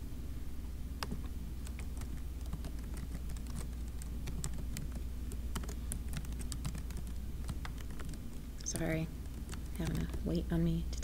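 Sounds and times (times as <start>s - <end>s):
steady low hum: 0.0s - 11.0s
typing on keyboard: 1.0s - 10.4s.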